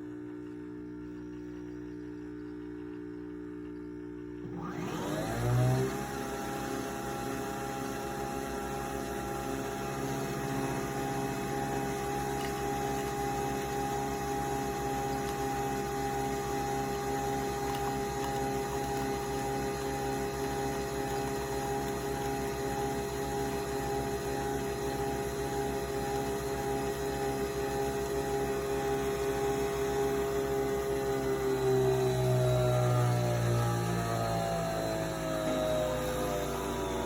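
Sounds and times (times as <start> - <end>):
coffee machine motor humming: 0.0 - 37.0.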